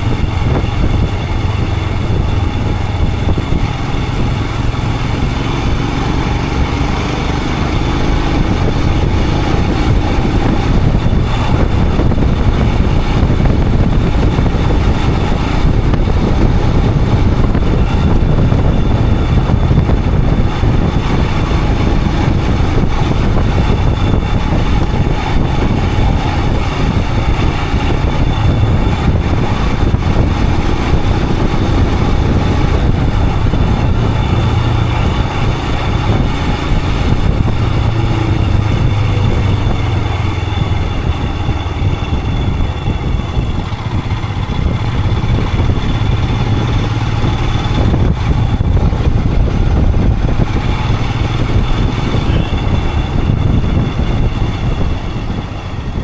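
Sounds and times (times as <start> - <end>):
single-cylinder motorcycle engine running: 0.0 - 56.0.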